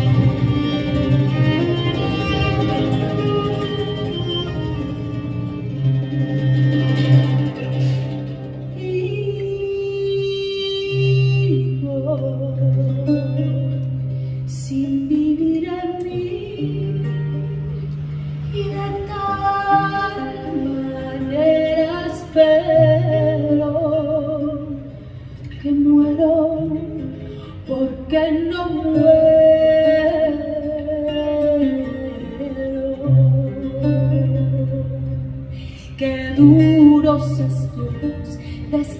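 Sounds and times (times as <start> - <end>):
acoustic guitar: 0.0 - 38.9
violin: 0.0 - 38.9
woman singing with vibrato: 6.1 - 13.8, 14.5 - 17.7, 18.5 - 38.9.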